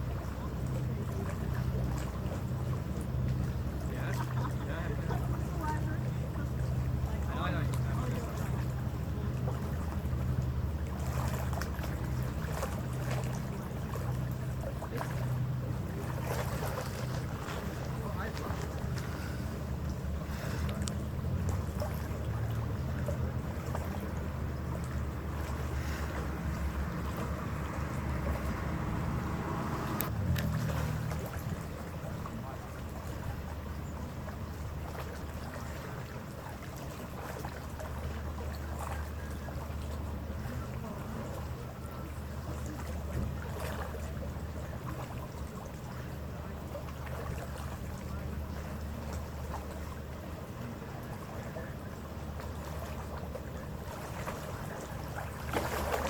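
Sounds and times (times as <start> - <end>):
ferry engine droning: 0.0 - 56.0
water splashing along hull: 0.0 - 56.0.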